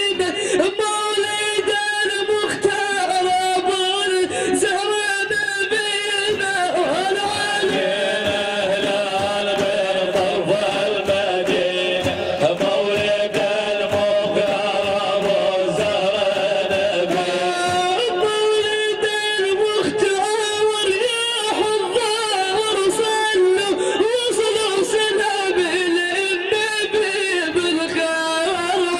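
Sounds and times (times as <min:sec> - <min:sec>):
melismatic religious singing: 0:00.0 - 0:28.9
percussion strikes: 0:00.0 - 0:28.9.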